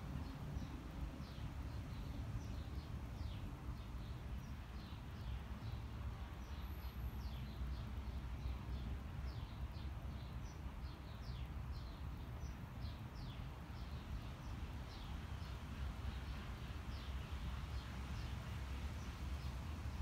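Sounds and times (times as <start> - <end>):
small birds chirping: 0.2 - 18.4.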